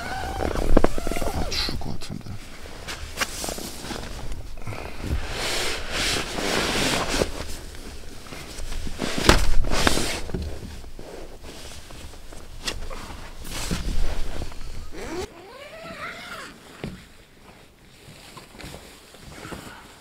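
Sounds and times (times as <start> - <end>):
nylon fabric rustling: 0.0 - 1.6, 2.4 - 20.0.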